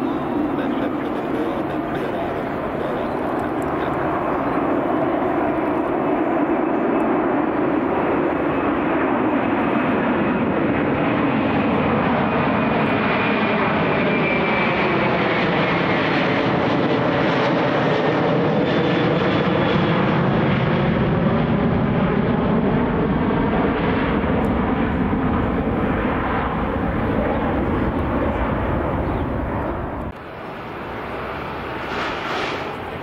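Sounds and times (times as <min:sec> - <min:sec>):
airliner engines passing: 0:00.0 - 0:33.0.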